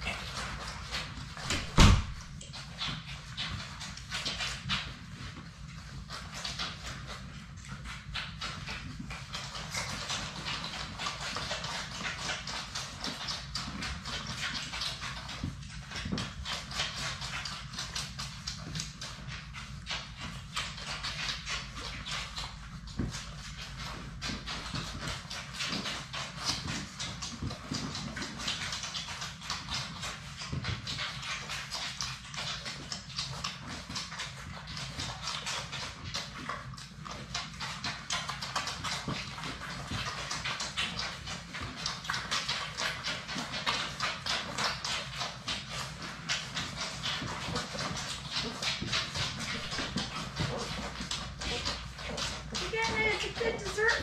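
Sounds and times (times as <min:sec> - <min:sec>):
puppies suckling: 0:00.0 - 0:54.0.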